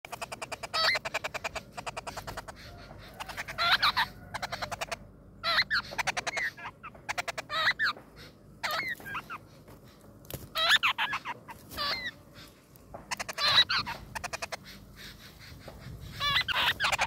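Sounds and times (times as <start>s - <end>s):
nestlings begging with harsh notes: 0.1s - 17.0s
nestlings squawking: 0.1s - 17.0s.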